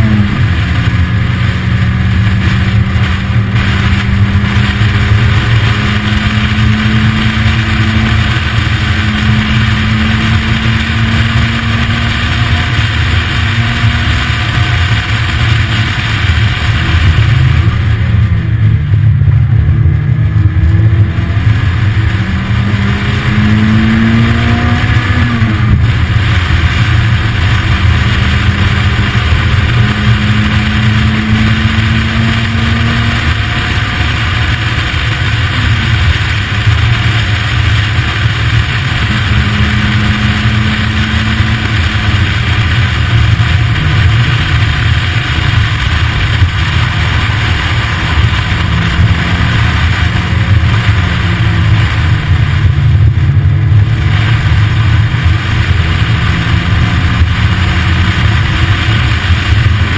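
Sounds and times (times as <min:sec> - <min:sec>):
car engine under load: 0:00.0 - 0:59.9
wind noise on microphone: 0:00.0 - 0:59.9.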